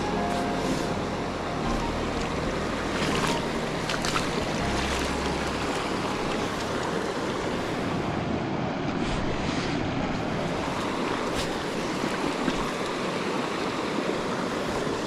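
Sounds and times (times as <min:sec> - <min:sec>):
creek rushing over rocks: 0:00.4 - 0:15.0.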